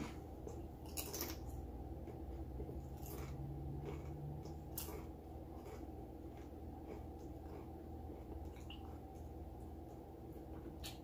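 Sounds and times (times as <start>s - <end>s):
chewing crunchy chips: 0.0s - 9.4s
low steady hum: 0.0s - 11.0s.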